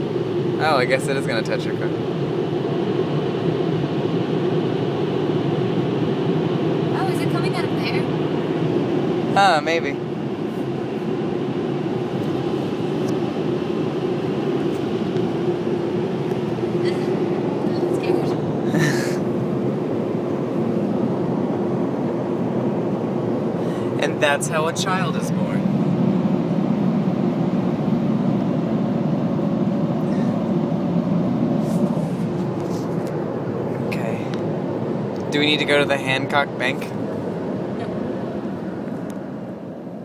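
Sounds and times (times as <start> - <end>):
constant machinery hum: 0.0 - 40.0
car cabin low rumble: 6.6 - 40.0.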